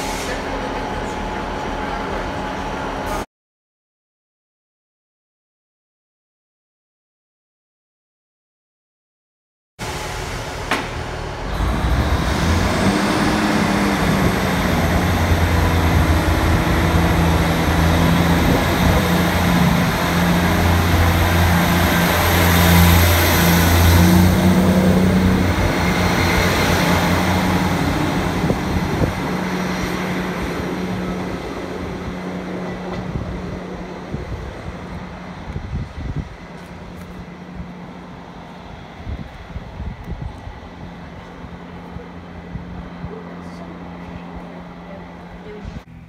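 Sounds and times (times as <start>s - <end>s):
diesel train engines running: 0.0s - 3.2s, 9.8s - 46.0s.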